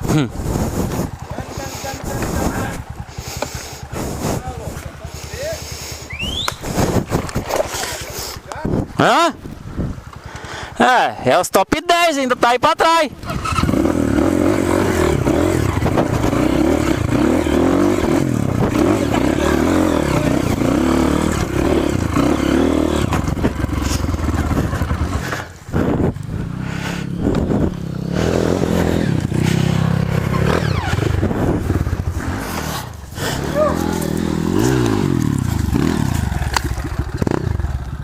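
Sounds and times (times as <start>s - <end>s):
motorcycle engine revving: 0.0s - 10.2s, 13.1s - 38.0s.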